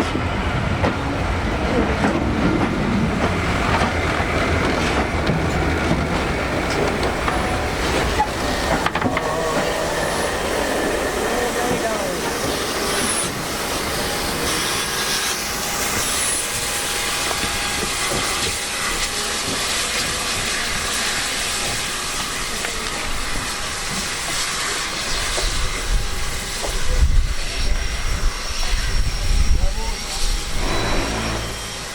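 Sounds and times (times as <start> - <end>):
train rushing past: 0.0 - 31.9.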